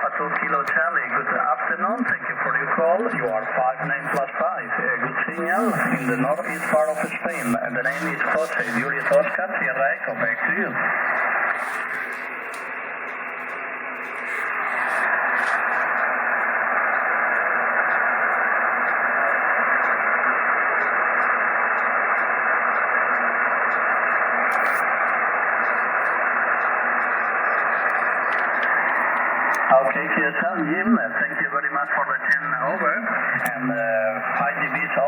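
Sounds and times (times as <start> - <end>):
shortwave radio hiss: 0.0 - 35.0.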